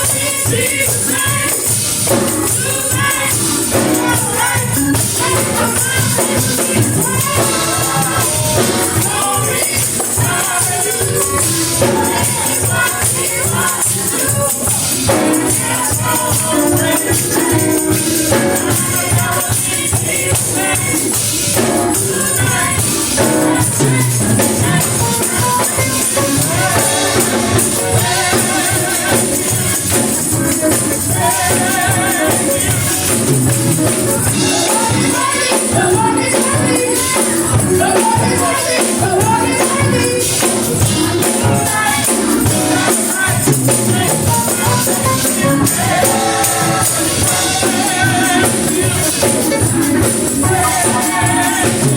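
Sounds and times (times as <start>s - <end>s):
band with driving beat: 0.0s - 51.9s
rattling percussion: 0.0s - 51.9s
voices singing together: 0.0s - 51.9s.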